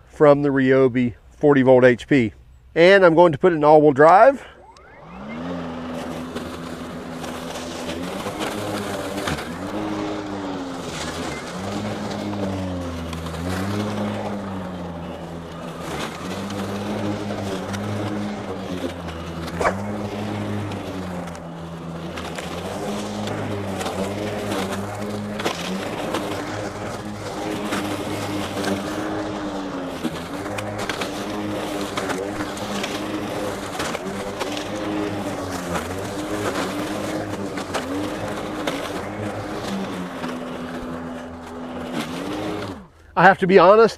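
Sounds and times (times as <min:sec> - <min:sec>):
mower motor under load: 0:02.4 - 0:43.9.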